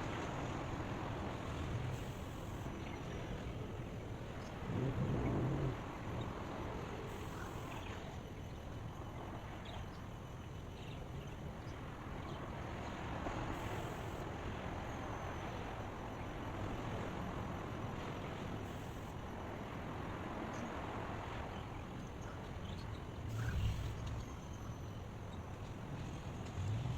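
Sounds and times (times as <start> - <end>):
steady background hiss: 0.0 - 26.2.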